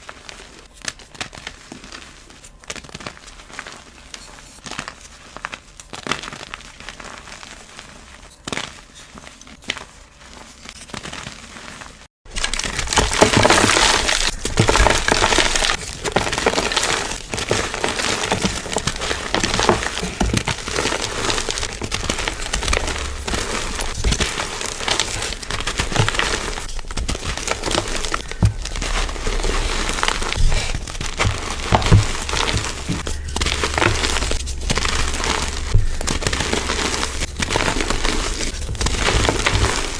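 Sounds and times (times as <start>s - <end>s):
brittle material crackling and crunching: 0.0s - 39.9s.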